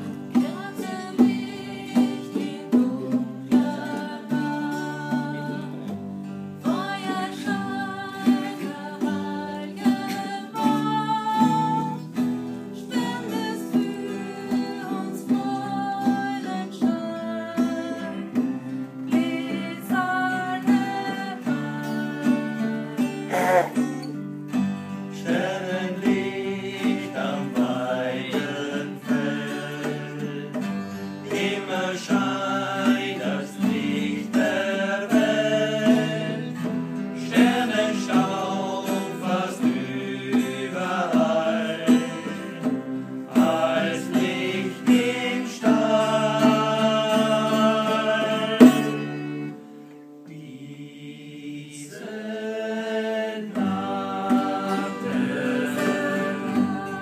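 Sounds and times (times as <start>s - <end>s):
group singing: 0.0s - 6.0s, 6.6s - 24.2s, 25.1s - 49.7s, 50.3s - 57.0s
acoustic guitars strumming: 0.0s - 57.0s.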